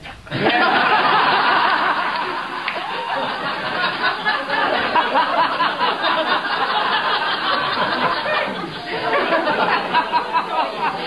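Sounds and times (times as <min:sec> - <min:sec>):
crowd of guests laughing: 0:00.3 - 0:11.0.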